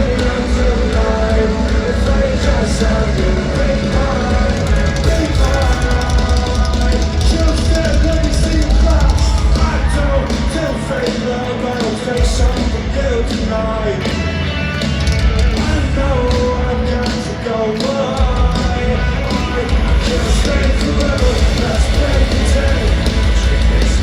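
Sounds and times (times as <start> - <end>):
drums: 0.0 - 24.0
electric guitars: 0.0 - 24.0
live rock band playing: 0.0 - 24.0
person singing: 0.0 - 24.0.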